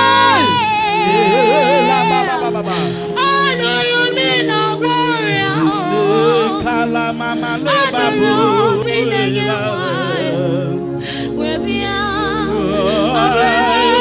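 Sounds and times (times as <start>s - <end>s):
held chords: 0.0s - 14.0s
person singing with vibrato: 0.0s - 14.0s.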